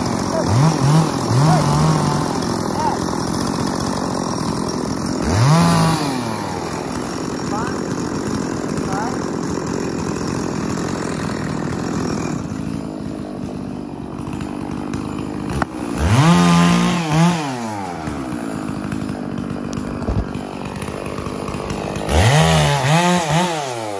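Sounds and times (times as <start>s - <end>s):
chainsaw engine idling and revving: 0.0s - 23.9s.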